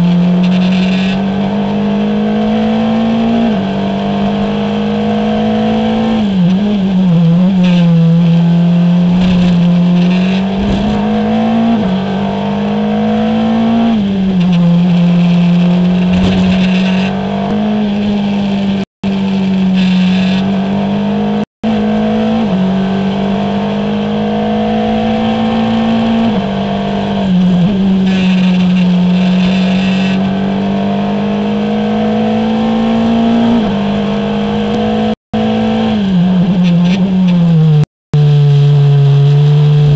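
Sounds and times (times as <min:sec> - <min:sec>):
racing car engine at speed: 0:00.0 - 0:39.9.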